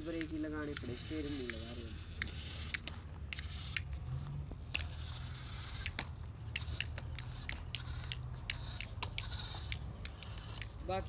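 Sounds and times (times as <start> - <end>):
low electric motor hum: 0.0 - 11.0
small clicks and crackles: 0.0 - 11.0.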